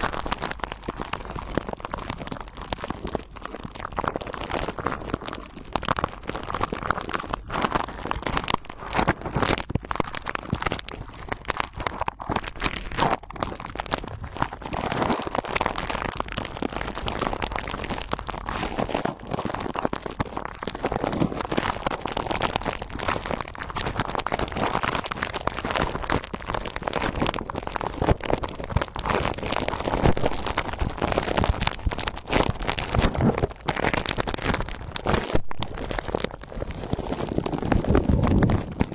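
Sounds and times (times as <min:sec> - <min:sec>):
plastic wrap crinkling: 0:00.0 - 0:38.9.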